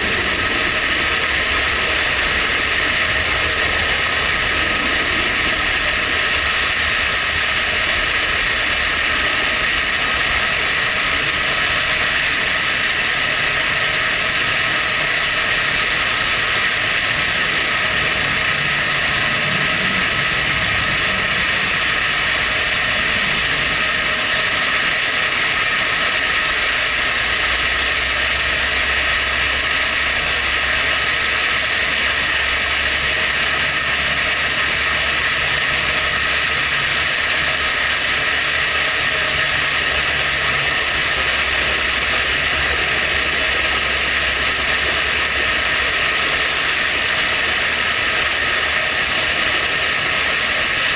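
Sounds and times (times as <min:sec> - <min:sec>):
milling machine cutting: 0:00.0 - 0:50.9.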